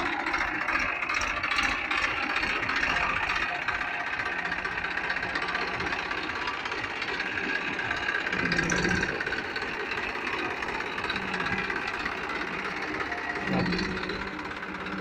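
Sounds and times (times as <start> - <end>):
tractor diesel engine: 0.0 - 15.0.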